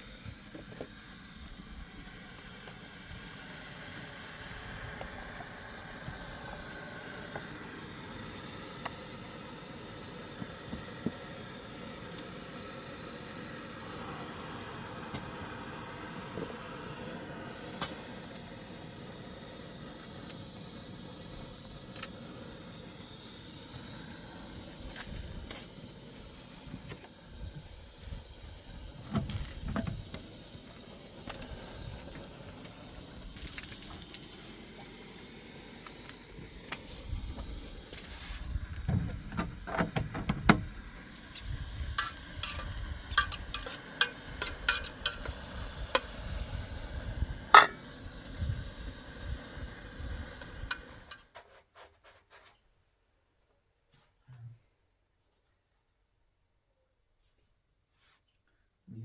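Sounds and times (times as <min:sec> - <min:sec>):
faint high whine: 0:00.0 - 0:51.3.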